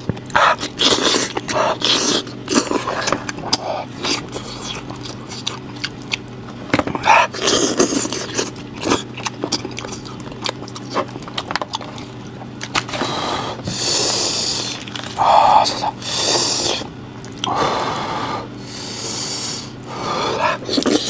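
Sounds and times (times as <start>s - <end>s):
person chewing noisily: 0.0s - 21.0s.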